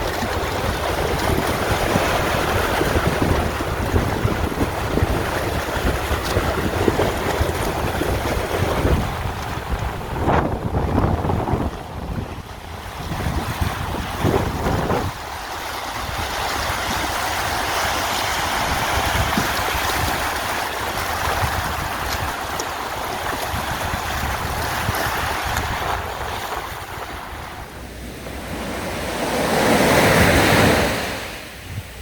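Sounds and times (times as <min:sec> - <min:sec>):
surf washing on shore: 0:00.0 - 0:32.0.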